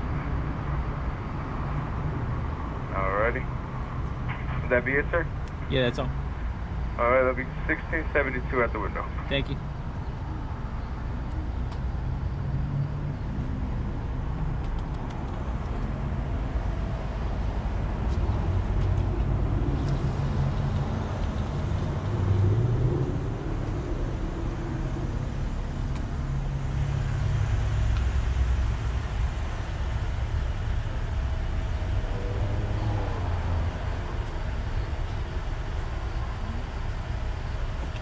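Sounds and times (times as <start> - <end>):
car engine low rumble: 0.0 - 38.0.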